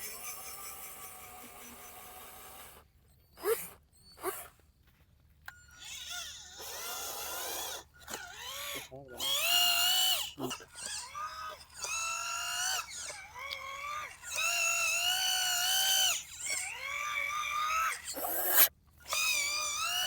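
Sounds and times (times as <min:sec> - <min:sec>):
toy tractor electric motor whining: 0:00.0 - 0:04.6, 0:05.5 - 0:20.0.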